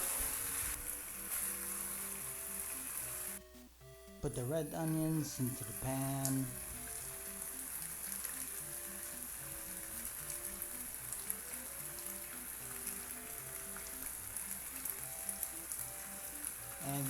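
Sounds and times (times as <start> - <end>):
onions sizzling in a pan: 0.0 - 3.4, 4.8 - 17.0
soft background music: 0.0 - 17.0.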